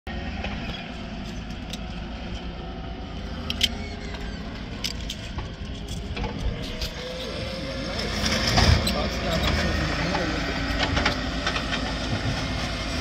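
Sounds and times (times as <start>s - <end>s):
heavy machinery rumbling: 0.1s - 13.0s.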